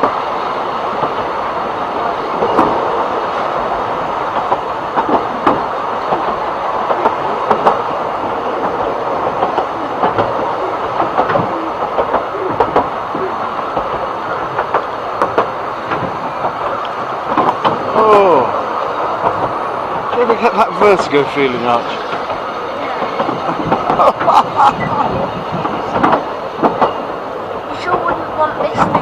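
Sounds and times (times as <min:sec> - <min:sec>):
train wheels rumbling on rail: 0:00.0 - 0:29.0
wheels clicking and clacking: 0:00.0 - 0:29.0.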